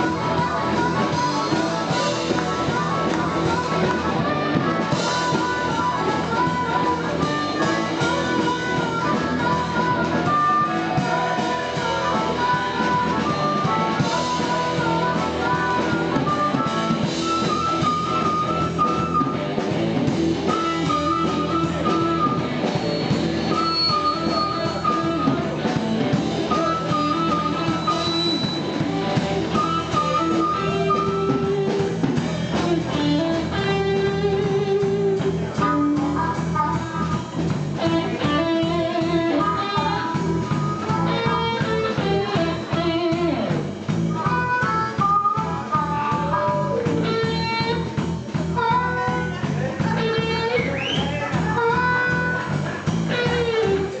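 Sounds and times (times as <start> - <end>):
blues band playing: 0.0 - 54.0
lead guitar phrases: 0.0 - 54.0.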